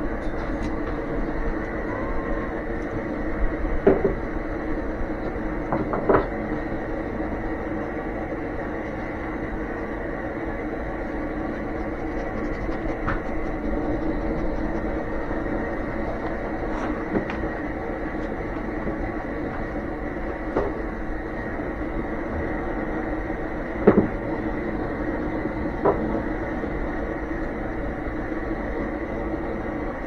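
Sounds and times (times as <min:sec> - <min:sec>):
machine whining: 0:00.0 - 0:30.0.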